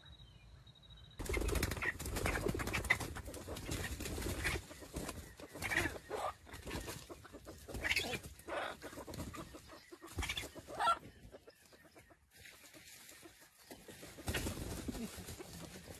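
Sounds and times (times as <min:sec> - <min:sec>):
junglefowl clucking: 0:01.4 - 0:15.9.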